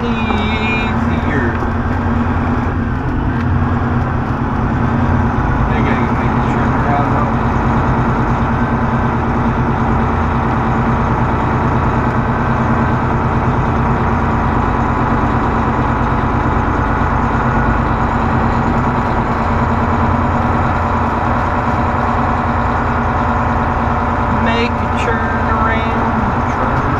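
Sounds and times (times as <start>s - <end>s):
truck diesel engine running: 0.0s - 26.9s.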